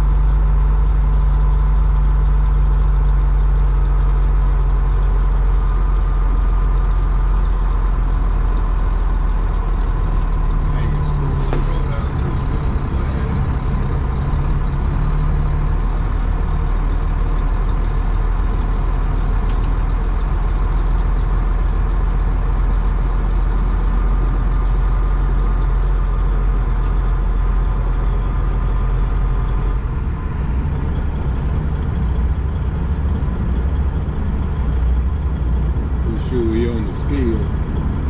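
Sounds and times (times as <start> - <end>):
truck diesel engine running: 0.0 - 38.0.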